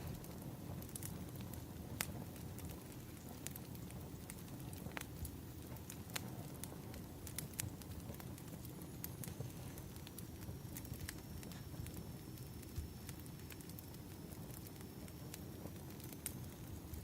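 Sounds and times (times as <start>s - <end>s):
firewood crackling: 0.0s - 17.0s
low rumble of flames: 0.0s - 17.0s.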